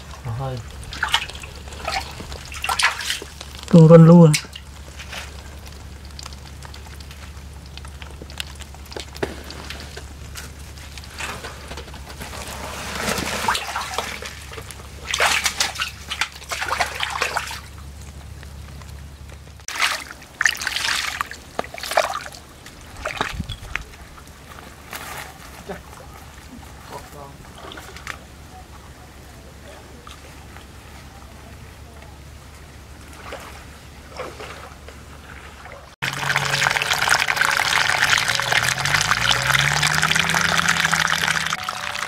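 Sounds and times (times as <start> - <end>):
water sloshing and splashing: 0.0 - 28.9, 29.7 - 42.0
low steady hum: 0.0 - 42.0.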